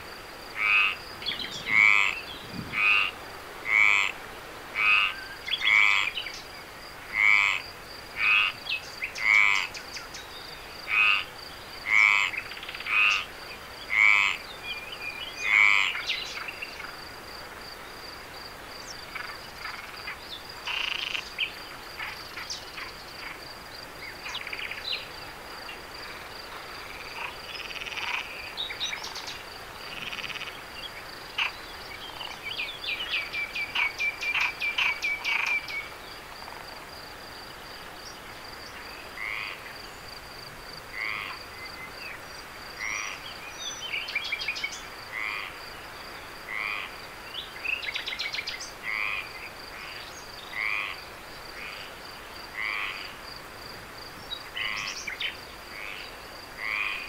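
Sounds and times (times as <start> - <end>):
frogs croaking: 0.0 - 57.0
insect trill: 4.8 - 57.0.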